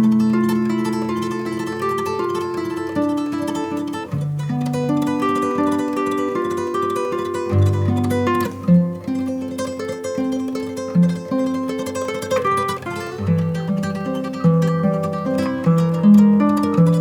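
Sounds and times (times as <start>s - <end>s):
plucked acoustic guitar melody: 0.0s - 17.0s.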